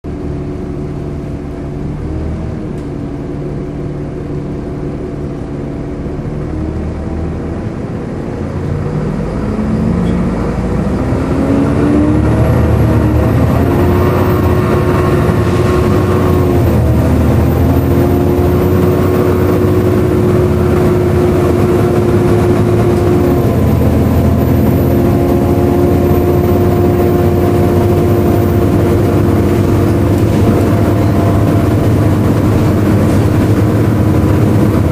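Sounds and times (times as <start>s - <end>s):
bus diesel engine: 0.0s - 34.9s
loud cooling fan: 0.1s - 34.9s.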